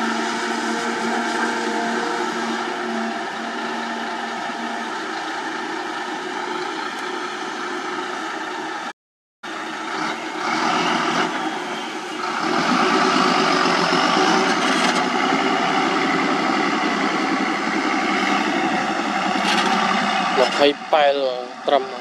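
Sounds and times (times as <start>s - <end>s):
truck diesel engine pulling away: 0.0s - 22.0s.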